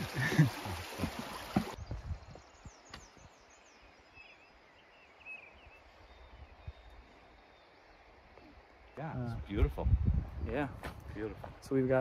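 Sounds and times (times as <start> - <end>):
faint open-air ambience: 0.0 - 12.0.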